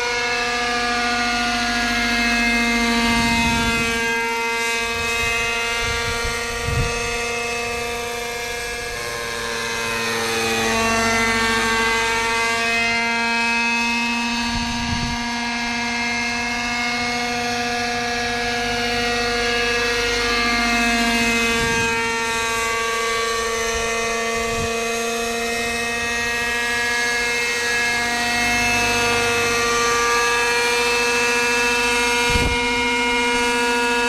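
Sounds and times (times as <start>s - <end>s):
model helicopter engine buzzing: 0.0s - 34.0s.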